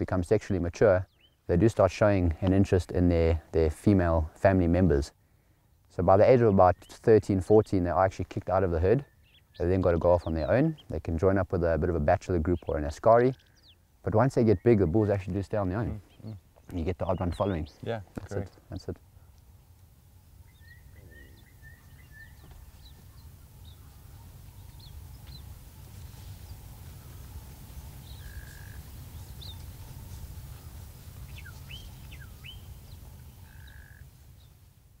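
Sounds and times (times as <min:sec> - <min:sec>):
birds chirping: 0:00.0 - 0:34.8.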